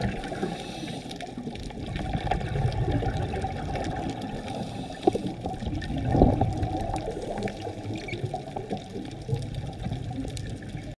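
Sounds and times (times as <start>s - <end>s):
underwater bubbles rising: 0.0s - 11.0s.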